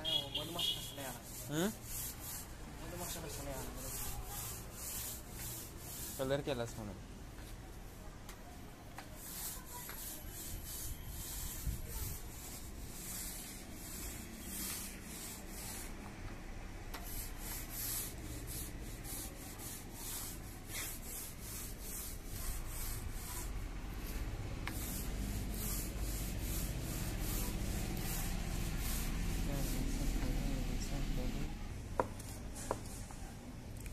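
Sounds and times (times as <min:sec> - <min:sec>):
paint roller swishing on floor: 0:00.0 - 0:06.5, 0:08.9 - 0:16.3, 0:16.9 - 0:31.4.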